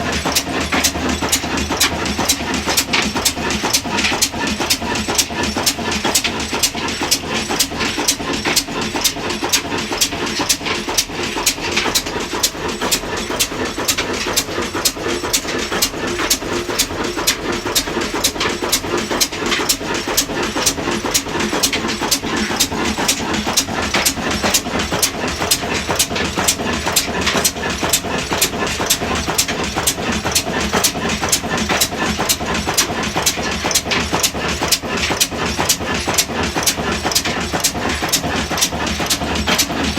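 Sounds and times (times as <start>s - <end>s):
diesel engine knocking steadily: 0.0s - 39.9s.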